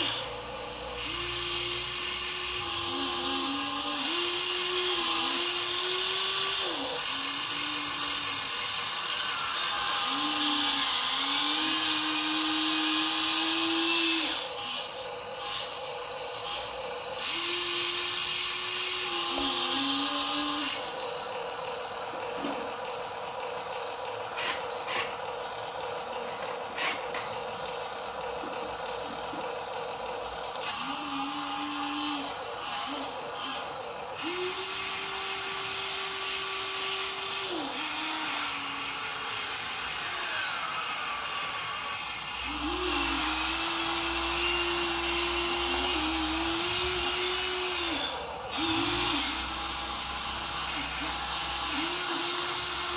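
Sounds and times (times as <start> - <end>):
high-pitched motor whine: 0.0 - 52.9
toy truck motors whirring: 0.0 - 52.9.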